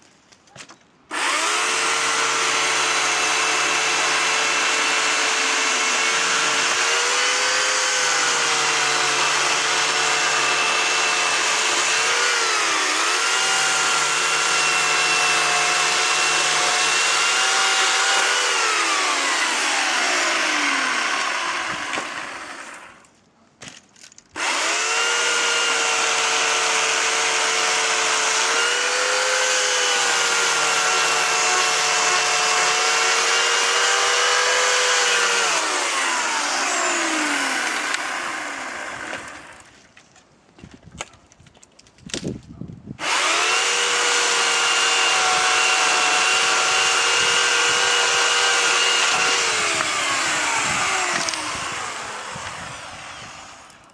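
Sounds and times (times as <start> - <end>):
power saw motor cutting wood: 1.1 - 23.0, 24.4 - 39.7, 43.0 - 53.9.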